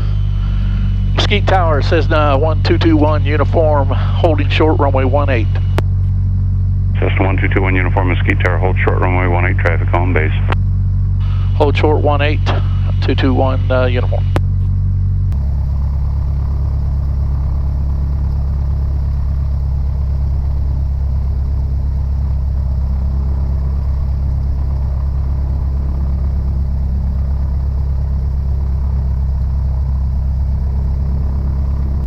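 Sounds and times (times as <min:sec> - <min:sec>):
aircraft piston engine idling: 0:00.0 - 0:32.0.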